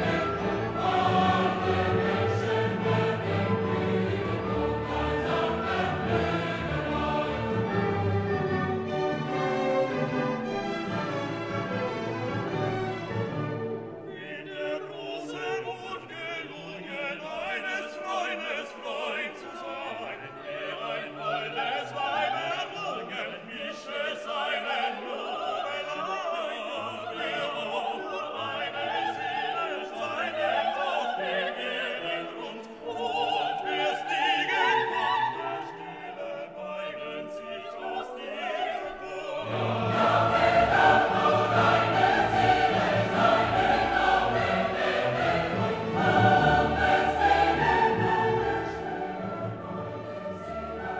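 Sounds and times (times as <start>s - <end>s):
choir singing: 0.0s - 50.9s
operatic singing with orchestra: 0.0s - 50.9s.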